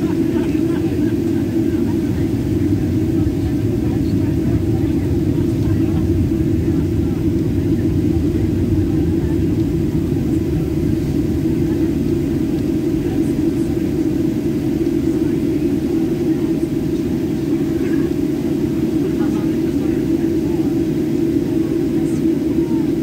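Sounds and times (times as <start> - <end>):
jet engines rumbling in cabin: 0.0 - 23.0.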